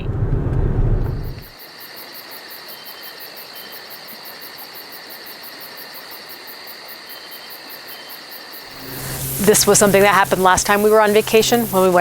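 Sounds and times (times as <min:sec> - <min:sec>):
insects chirping: 0:01.1 - 0:12.0.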